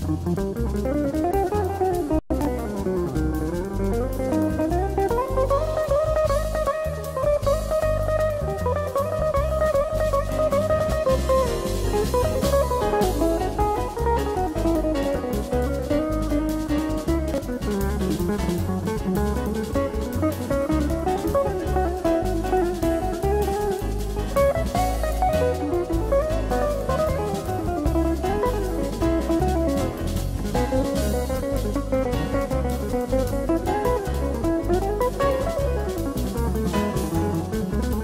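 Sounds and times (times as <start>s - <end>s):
bass groove: 0.0s - 38.0s
drum kit groove: 0.0s - 38.0s
electric guitar melody: 0.0s - 38.0s.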